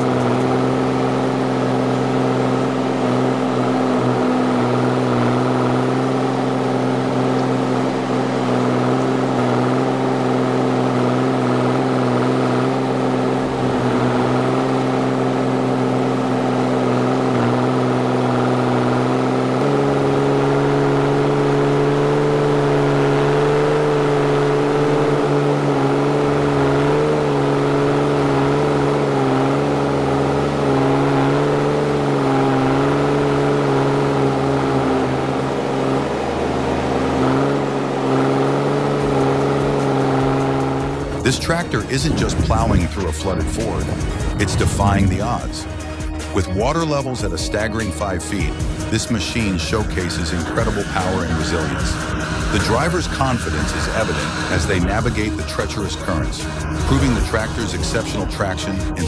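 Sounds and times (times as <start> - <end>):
diesel engine running at low revs: 0.0 - 59.0.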